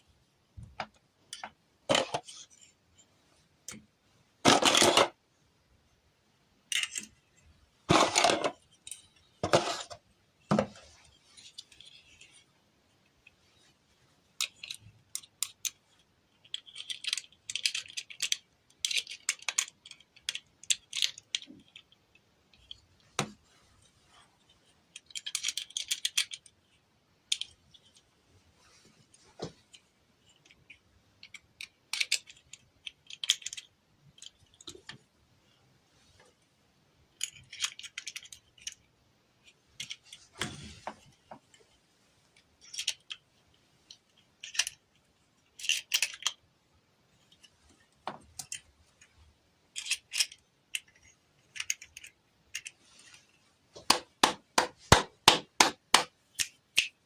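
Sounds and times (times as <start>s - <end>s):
plastic toys clicking and crackling: 4.5s - 5.2s, 6.6s - 10.1s, 10.8s - 13.5s, 14.2s - 23.3s, 24.4s - 28.2s, 29.1s - 36.3s, 37.0s - 46.6s, 47.2s - 57.0s.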